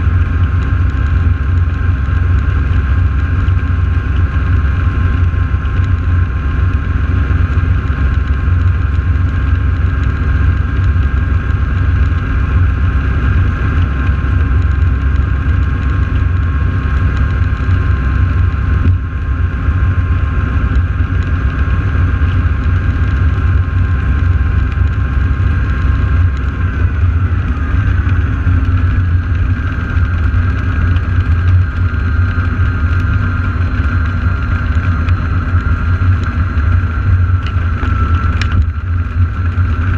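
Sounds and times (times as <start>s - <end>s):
piston aircraft engines idling: 0.0s - 39.9s.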